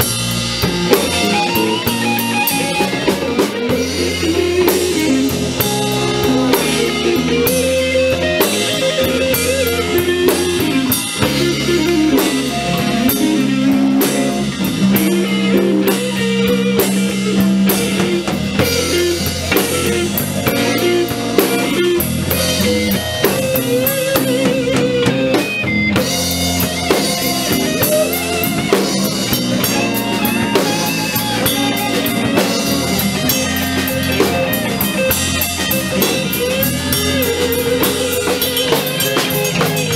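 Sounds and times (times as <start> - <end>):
live blues band playing: 0.0 - 39.9.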